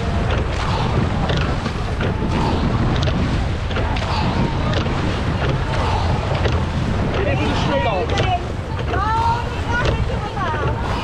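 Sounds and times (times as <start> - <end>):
choppy sea rushing: 0.0 - 11.0
knocks and splashes: 0.0 - 11.0
wind buffeting microphone: 0.0 - 11.0.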